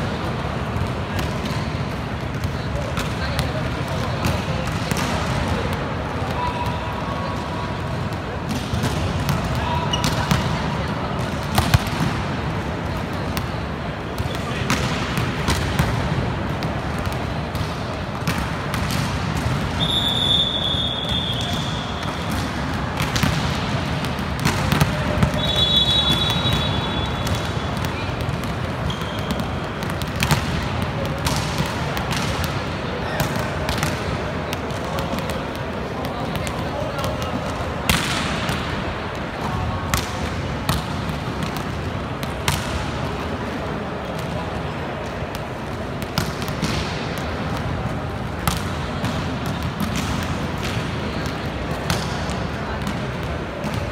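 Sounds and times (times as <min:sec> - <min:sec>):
crowd din in sports hall: 0:00.0 - 0:53.9
volleyballs smacking and bouncing: 0:00.0 - 0:53.9.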